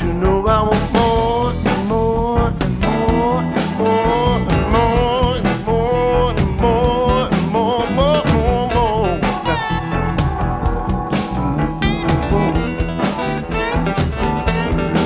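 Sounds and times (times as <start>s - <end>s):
blues-rock band playing: 0.0s - 15.0s
electric bass: 0.0s - 15.0s
electric guitar bending notes: 0.0s - 15.0s
steady drum beat: 0.0s - 15.0s.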